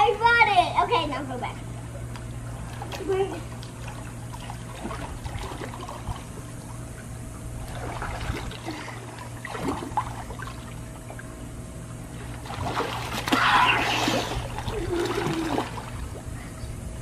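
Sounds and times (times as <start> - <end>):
low hum: 0.0 - 17.0
pool water splashing: 1.7 - 16.6.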